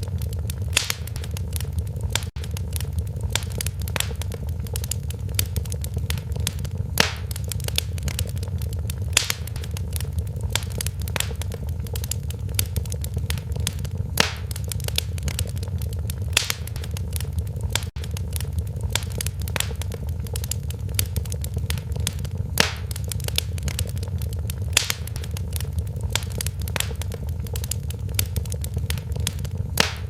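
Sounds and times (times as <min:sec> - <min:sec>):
fire crackling: 0:00.0 - 0:30.0
loud fire pops: 0:00.0 - 0:30.0
low rumble of fire: 0:00.0 - 0:30.0.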